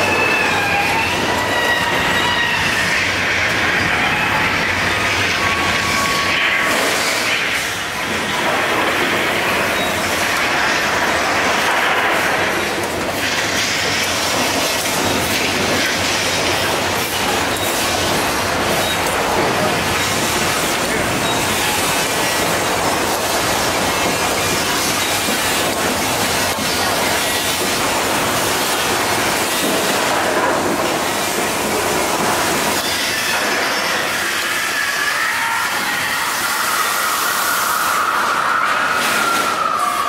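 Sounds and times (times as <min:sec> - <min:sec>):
loud rumbling and rattling: 0:00.0 - 0:36.2
steam jets hissing: 0:00.0 - 0:40.0.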